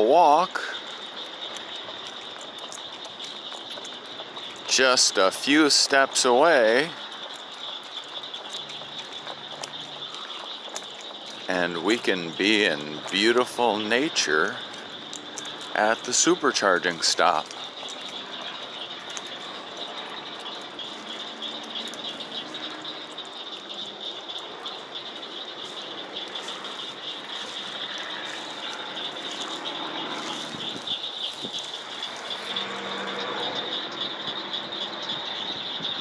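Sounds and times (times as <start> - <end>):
high-pitched pulsing animal chorus: 0.0 - 36.0.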